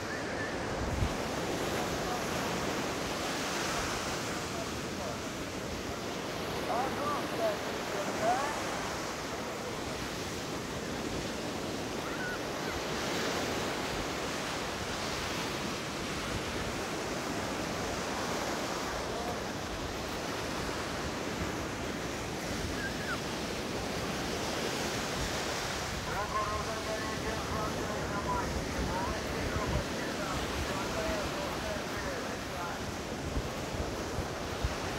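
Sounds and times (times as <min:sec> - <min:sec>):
surf breaking on shore: 0:00.0 - 0:34.9
wind on microphone: 0:00.0 - 0:34.9.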